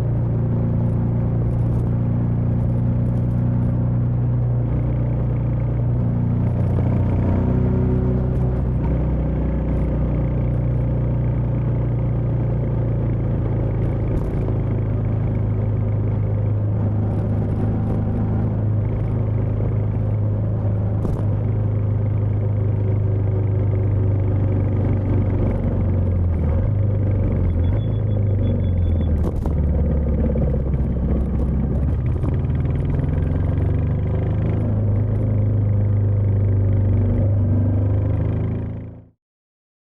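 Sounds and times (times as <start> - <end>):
motorcycle engine running: 0.0 - 39.1.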